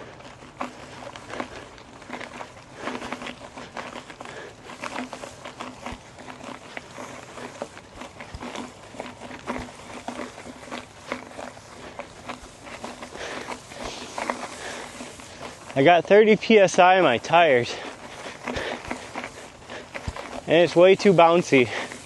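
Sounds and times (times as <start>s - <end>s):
mountain bike rattling over rough ground: 0.0s - 22.0s.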